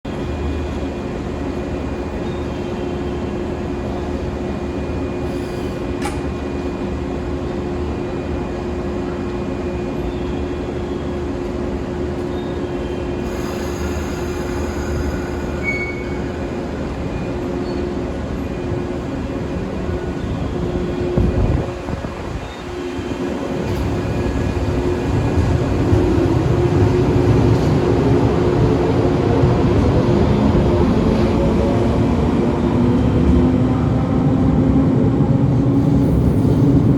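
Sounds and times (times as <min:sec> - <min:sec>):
electric train humming: 0:00.1 - 0:36.9.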